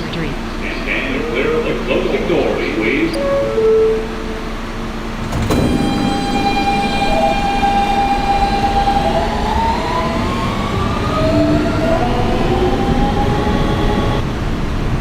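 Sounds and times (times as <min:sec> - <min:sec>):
traction motors whining: 0:00.0 - 0:14.6
train rumbling on rails: 0:00.0 - 0:15.0.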